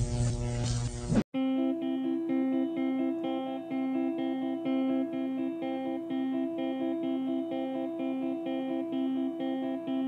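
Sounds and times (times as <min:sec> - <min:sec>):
guitar picking single notes: 0:01.4 - 0:10.0.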